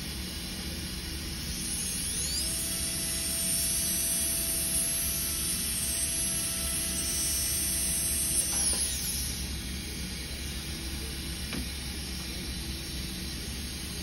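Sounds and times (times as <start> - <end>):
dental drill whining: 0.0 - 14.0.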